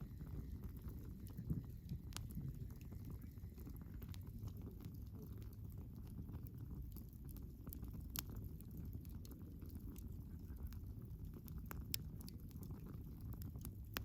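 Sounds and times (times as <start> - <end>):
fire crackling and popping: 0.0 - 14.0
wood fire rumble: 0.0 - 14.0.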